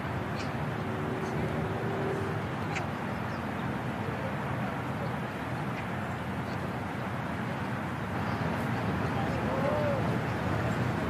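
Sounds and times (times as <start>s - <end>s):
low background noise: 0.0s - 11.0s
faint indistinct voices: 0.4s - 11.0s.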